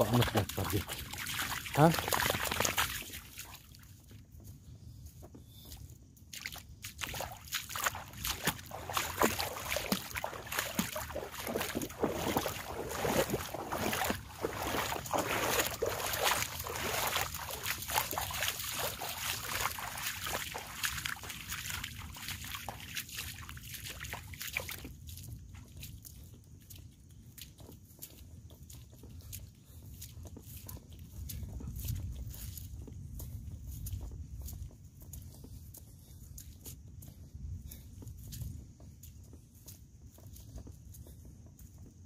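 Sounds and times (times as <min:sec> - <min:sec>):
footsteps splashing through mud: 0:00.0 - 0:42.0.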